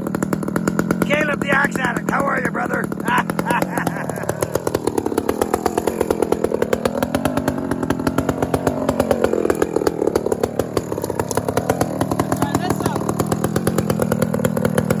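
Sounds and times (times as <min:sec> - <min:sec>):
chainsaw cutting: 0:00.0 - 0:15.0.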